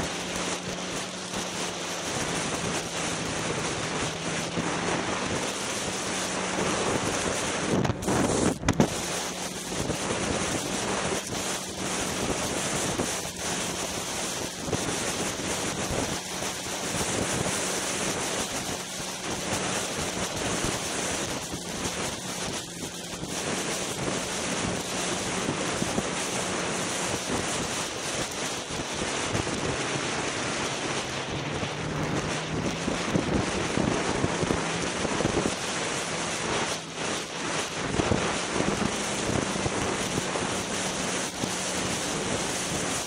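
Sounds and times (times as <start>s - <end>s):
snowmobile engine drone: 0.0s - 43.0s
wind rushing on microphone: 0.0s - 43.0s.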